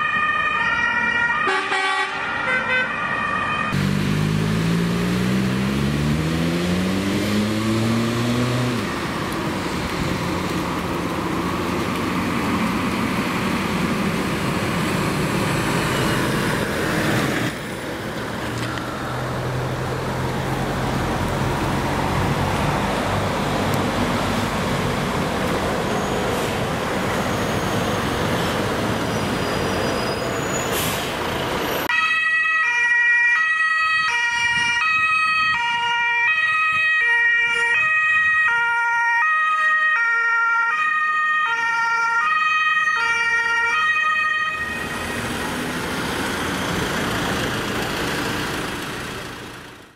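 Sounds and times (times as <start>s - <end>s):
engine and road noise: 0.0s - 49.9s.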